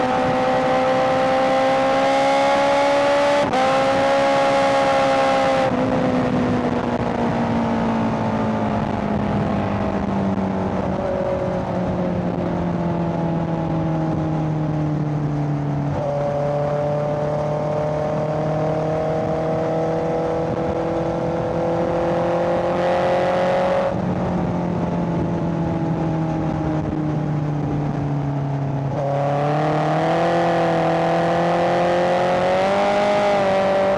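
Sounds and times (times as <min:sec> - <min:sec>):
motorcycle engine revving: 0:00.0 - 0:12.4, 0:15.0 - 0:33.9.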